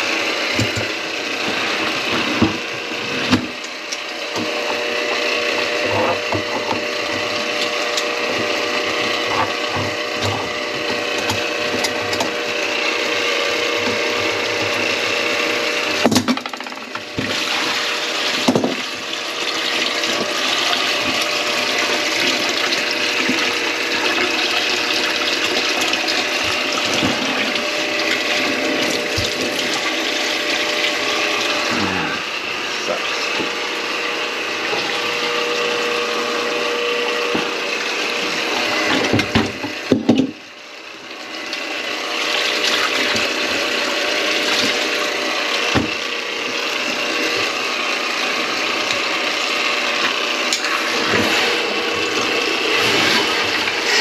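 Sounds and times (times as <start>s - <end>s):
drain machine running with water: 0.0s - 54.0s.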